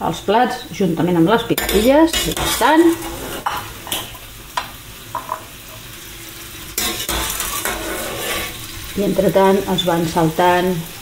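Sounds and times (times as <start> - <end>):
prawns sizzling in a frying pan: 0.0 - 11.0.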